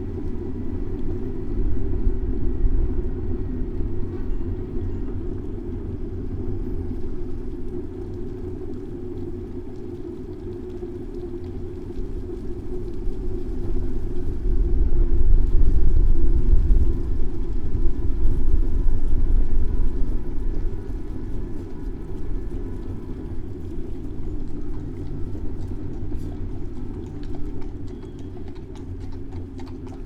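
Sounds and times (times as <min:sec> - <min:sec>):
bicycle riding noise: 0:00.0 - 0:30.0
city traffic rumble: 0:00.0 - 0:30.0.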